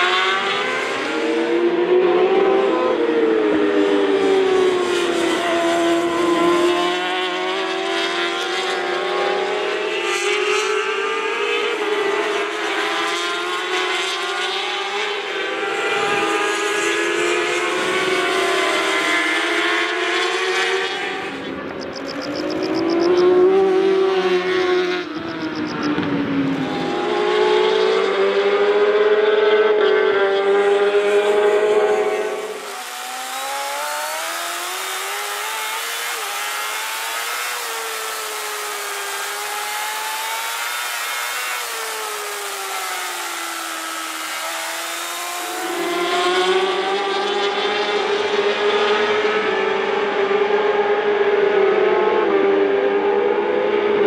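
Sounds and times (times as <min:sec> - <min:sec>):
racing motorcycle engines revving: 0:00.0 - 0:54.0.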